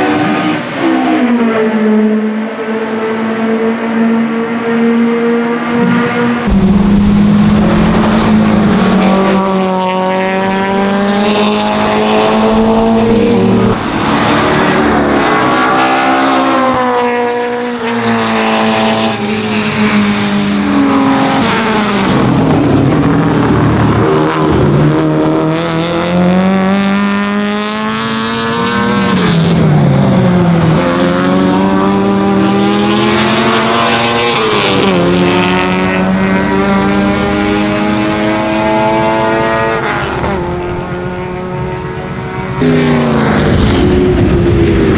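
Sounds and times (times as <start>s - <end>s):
race car engine revving: 0.0s - 44.9s.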